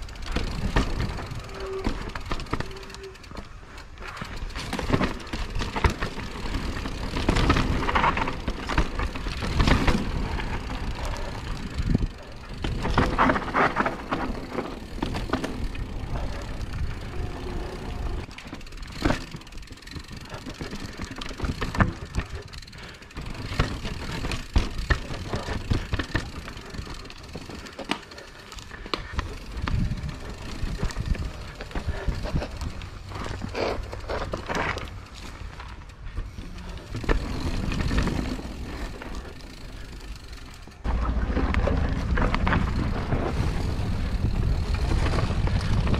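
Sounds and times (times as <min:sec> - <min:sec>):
bike rattling and knocking: 0:00.0 - 0:45.9
bike tyres on dirt and rock: 0:00.0 - 0:45.9.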